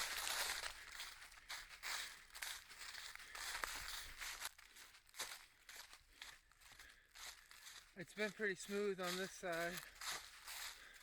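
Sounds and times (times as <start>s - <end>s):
footsteps in dry leaves: 0.0s - 11.0s.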